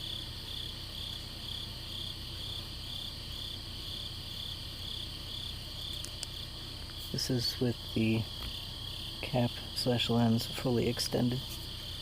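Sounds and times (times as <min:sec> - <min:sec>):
crickets chirping: 0:00.0 - 0:12.0
steady insect trill: 0:00.0 - 0:12.0.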